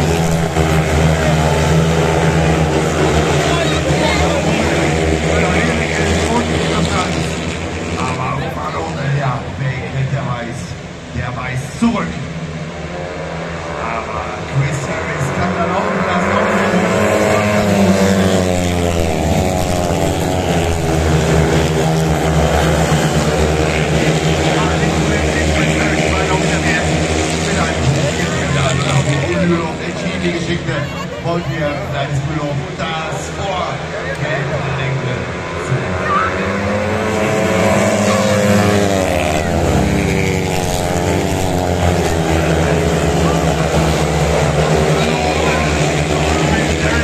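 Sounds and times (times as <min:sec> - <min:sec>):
motorcycles racing at full throttle: 0:00.0 - 0:47.0.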